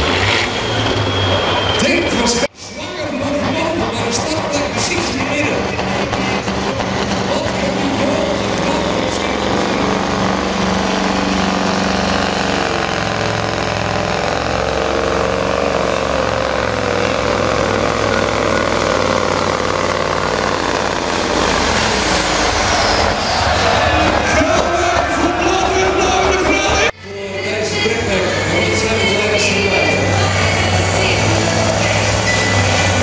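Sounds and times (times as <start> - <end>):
diesel truck engine under load: 0.0 - 33.0.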